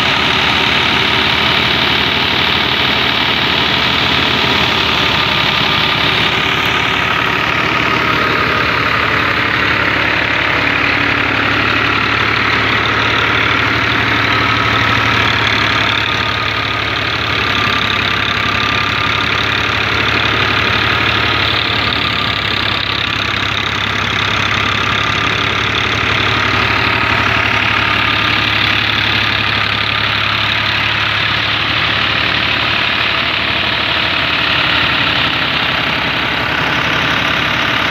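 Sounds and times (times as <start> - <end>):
thresher rushing noise: 0.0 - 37.9
tractor diesel engine running: 0.0 - 37.9.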